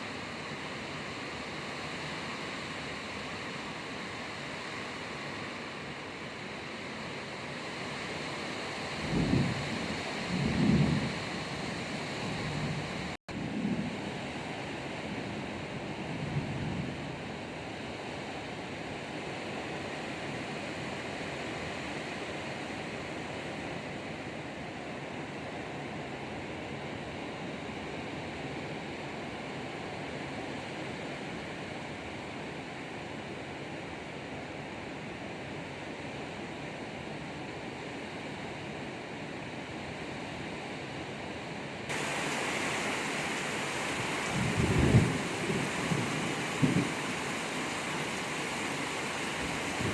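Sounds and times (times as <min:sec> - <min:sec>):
heavy rain in strong wind: 0:00.0 - 0:49.9.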